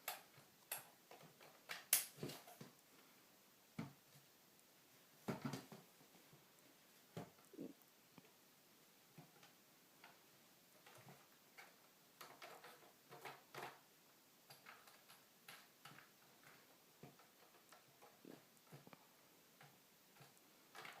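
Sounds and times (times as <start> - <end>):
faint clicks and taps: 0.0 - 3.1, 3.7 - 8.4, 9.1 - 13.8, 14.4 - 21.0.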